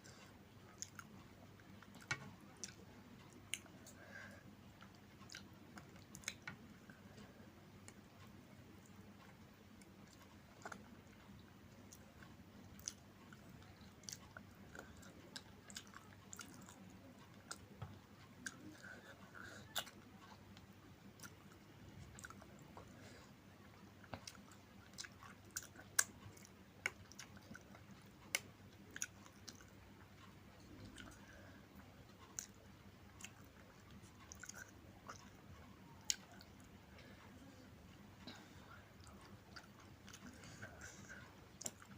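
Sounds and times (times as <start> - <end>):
faint chewing: 0.0 - 41.9.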